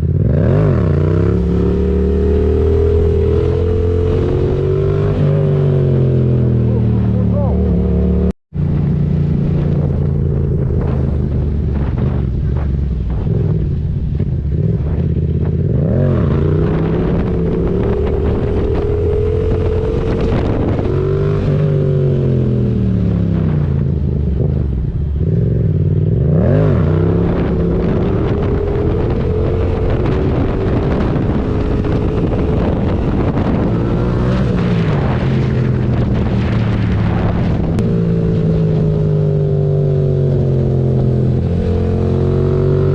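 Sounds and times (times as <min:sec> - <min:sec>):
loud motorcycle engine revving: 0:00.0 - 0:08.4, 0:13.1 - 0:42.9.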